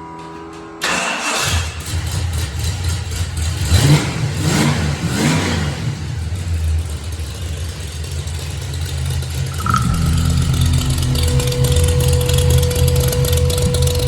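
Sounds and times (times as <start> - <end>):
rough car engine idling and revving: 2.0 - 14.0.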